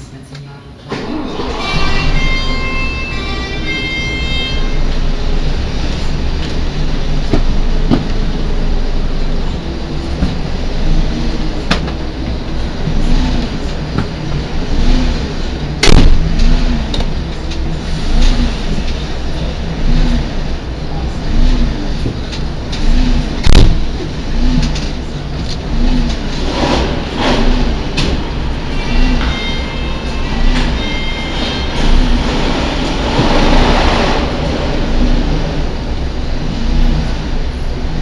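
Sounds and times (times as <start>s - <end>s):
fire engine idling: 0.8s - 38.0s.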